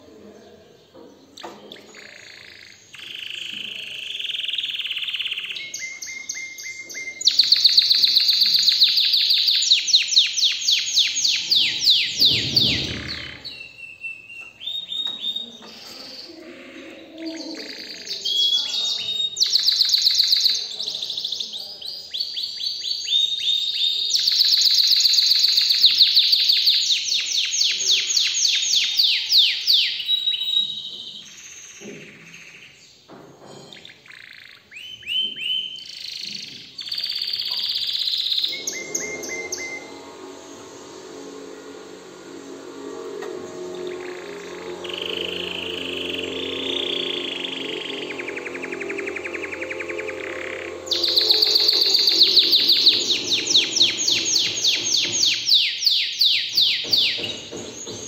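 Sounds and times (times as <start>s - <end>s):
canary singing trills: 0.2s - 33.0s, 33.6s - 58.0s.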